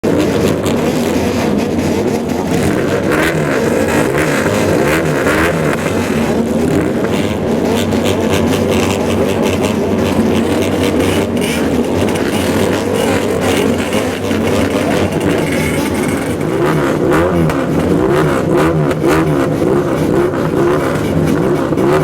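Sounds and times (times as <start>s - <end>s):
motorcycle exhausts revving: 0.0s - 22.0s.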